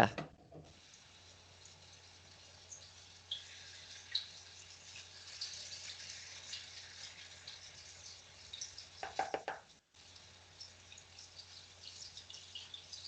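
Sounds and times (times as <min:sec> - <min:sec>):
chicken frying in hot oil: 0:00.0 - 0:13.0.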